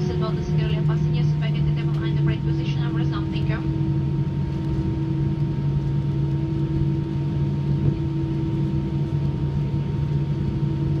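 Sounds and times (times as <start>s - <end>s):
jet engines droning in cabin: 0.0s - 11.0s.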